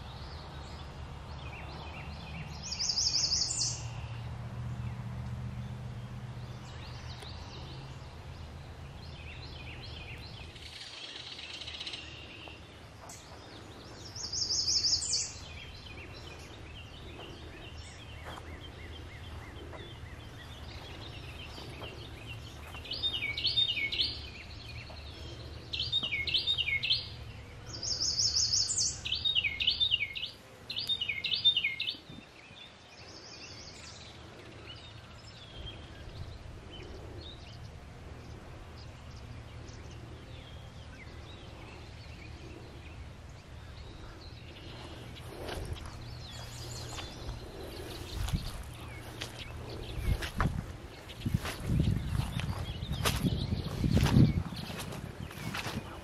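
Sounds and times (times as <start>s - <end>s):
songbirds singing: 0.0s - 56.0s
low steady rumble: 3.7s - 28.0s, 33.6s - 56.0s.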